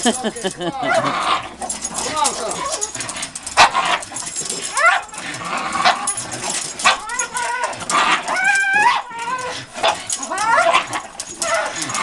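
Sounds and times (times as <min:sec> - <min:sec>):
dogs whining and yipping: 0:00.0 - 0:12.0.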